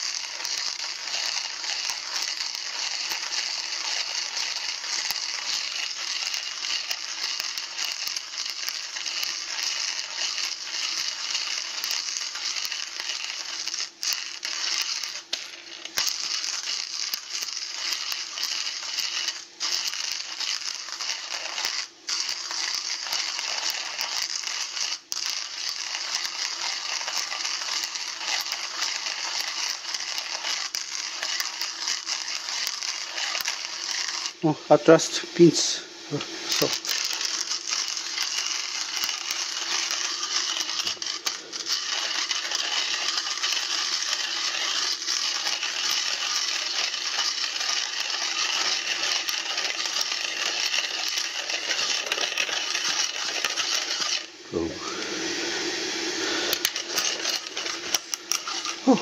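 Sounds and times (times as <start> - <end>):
hand coffee grinder grinding beans: 0.0 - 59.0.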